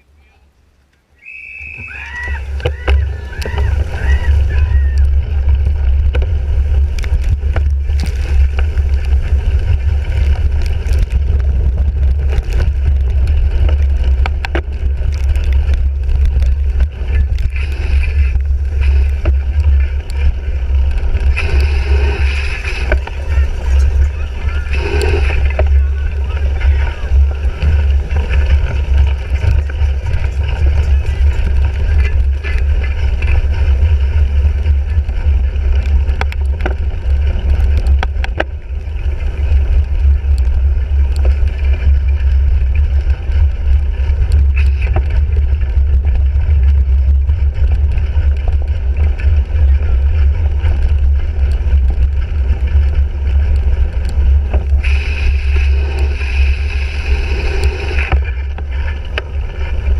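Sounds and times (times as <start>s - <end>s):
bike riding rumble: 0.0s - 59.9s
bike clicks and rattles: 0.9s - 59.9s
wind on microphone: 1.6s - 59.9s.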